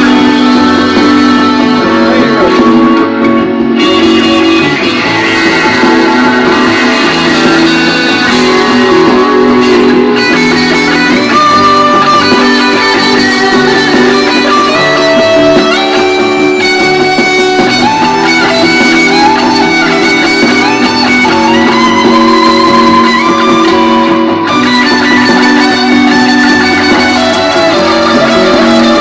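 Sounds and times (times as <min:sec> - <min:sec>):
electric guitar bending notes: 0:00.0 - 0:29.0.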